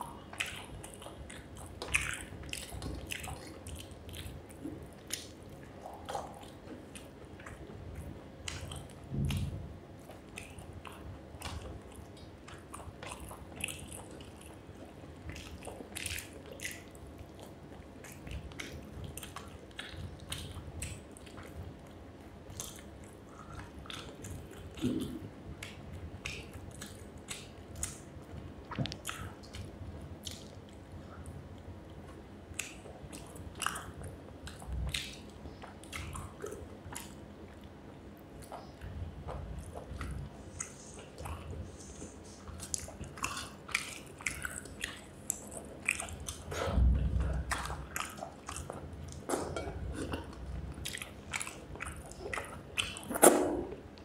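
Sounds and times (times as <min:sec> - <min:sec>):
chewing and eating: 0:00.0 - 0:54.0.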